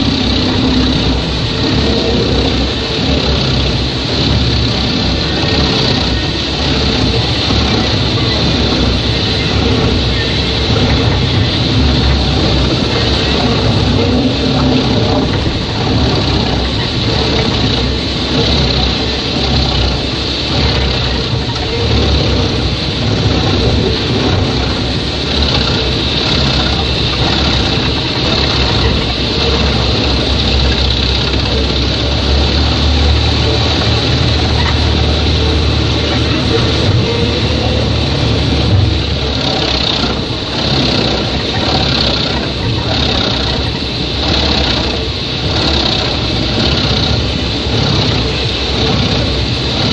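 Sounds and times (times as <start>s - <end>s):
wood chipper running: 0.0s - 49.9s.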